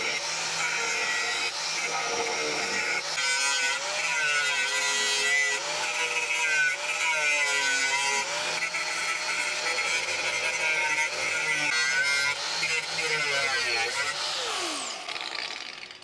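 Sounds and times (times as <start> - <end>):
angle grinder grinding metal: 0.0 - 16.0.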